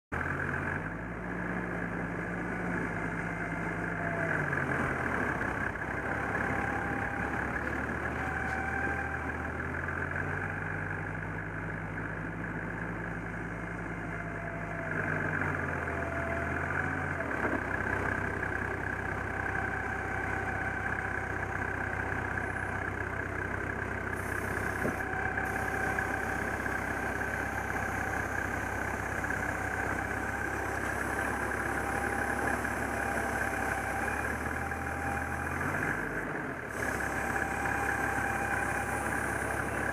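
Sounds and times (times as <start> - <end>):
car engine revving and idling: 0.1 - 39.9.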